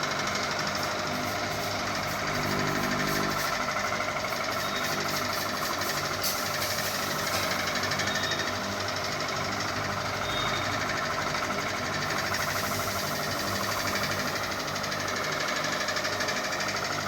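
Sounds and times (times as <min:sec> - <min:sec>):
ceiling fan whirring and rattling: 0:00.0 - 0:17.0.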